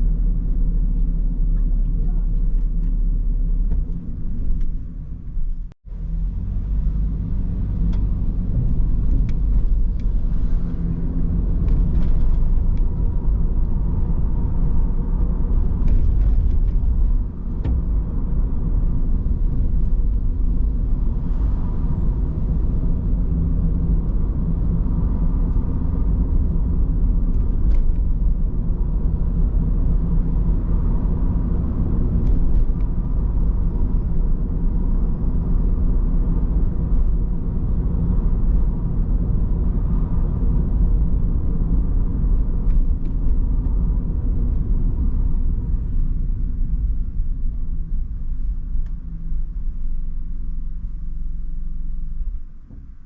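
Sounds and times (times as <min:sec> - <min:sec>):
car engine and tyre rumble: 0:00.0 - 0:53.0.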